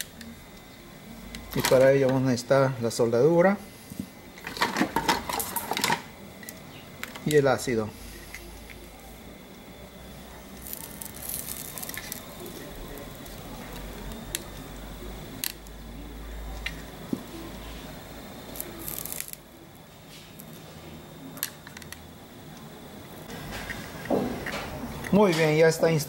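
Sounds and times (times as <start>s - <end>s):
solder crackling and hissing: 0.0s - 26.0s.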